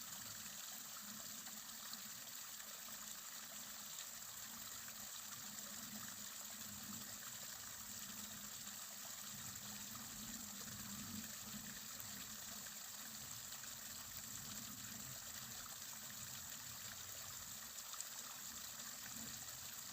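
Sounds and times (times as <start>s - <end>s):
faint flowing stream water: 0.0s - 19.9s.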